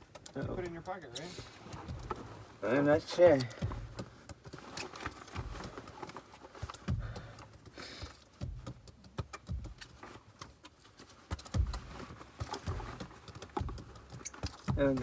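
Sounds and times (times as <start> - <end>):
rummaging in car cabin: 0.0 - 15.0.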